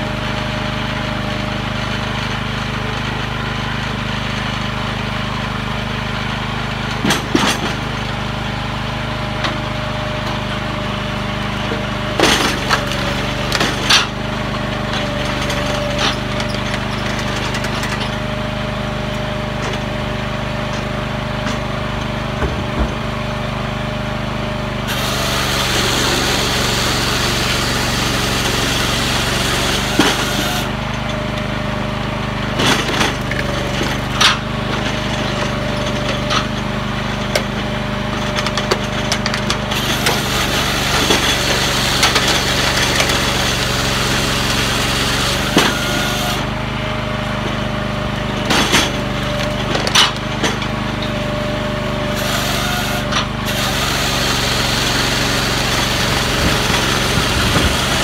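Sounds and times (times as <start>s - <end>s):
engine hum: 0.0s - 58.0s.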